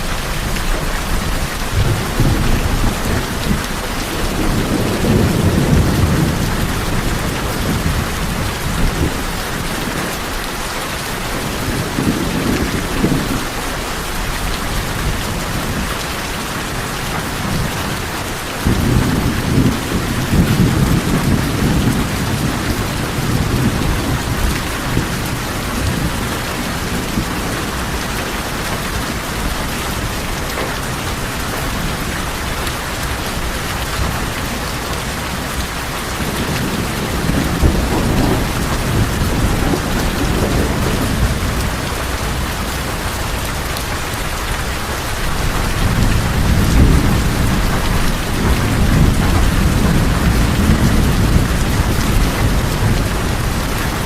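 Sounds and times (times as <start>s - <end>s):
low thunder rumbling: 0.0s - 54.0s
rain drumming on tin roof: 0.0s - 54.0s.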